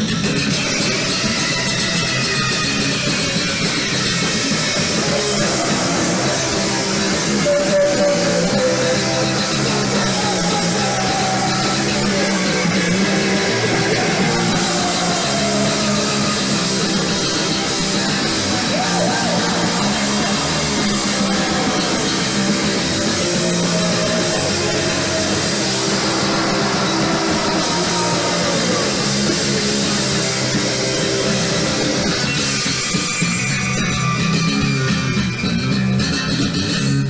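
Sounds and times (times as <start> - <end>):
drum kit: 0.0 - 36.9
electric guitar: 0.0 - 37.0
sliding guitar notes: 0.2 - 37.0.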